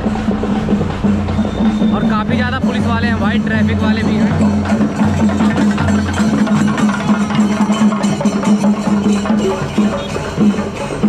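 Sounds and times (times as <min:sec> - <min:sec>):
drums playing fast: 0:00.0 - 0:11.0.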